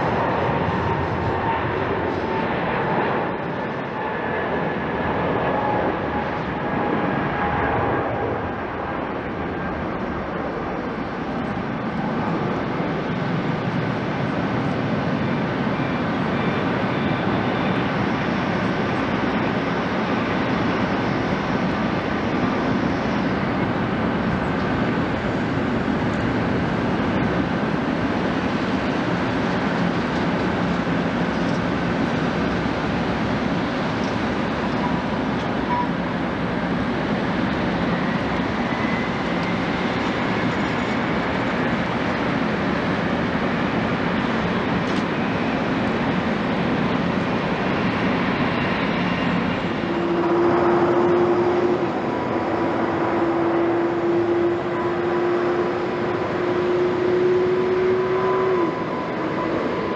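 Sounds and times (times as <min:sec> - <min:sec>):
jet engine rumble with whine: 0:00.0 - 0:59.9.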